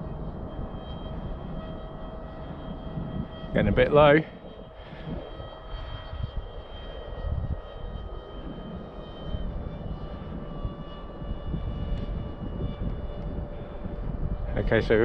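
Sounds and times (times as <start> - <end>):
model plane motor whining: 0.0 - 15.0
wind rumble on microphone: 0.0 - 15.0.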